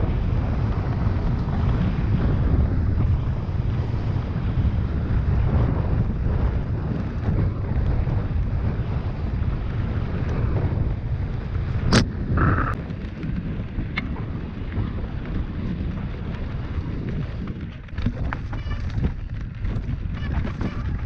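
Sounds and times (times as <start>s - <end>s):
bike rumble and rattle: 0.0s - 21.0s
wind on microphone: 0.0s - 21.0s.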